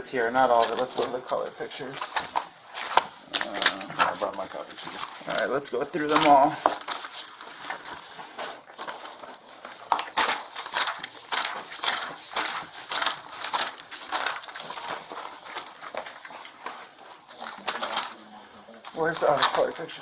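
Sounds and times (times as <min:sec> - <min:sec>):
papers rustling and shuffling: 0:00.0 - 0:20.0.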